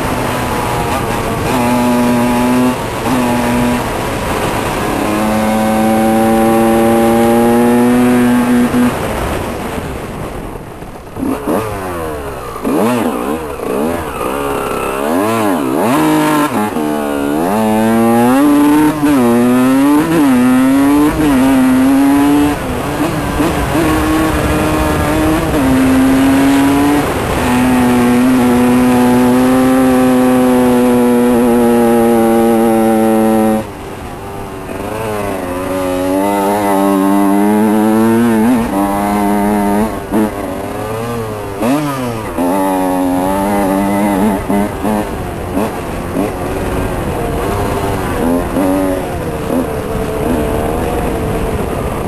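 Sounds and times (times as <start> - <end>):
two-stroke motorcycle engine revving: 0.0 - 52.0.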